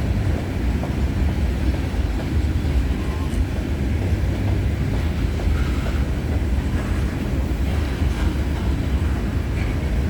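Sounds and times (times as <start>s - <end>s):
freight train wheels rumbling on rail: 0.0s - 10.0s.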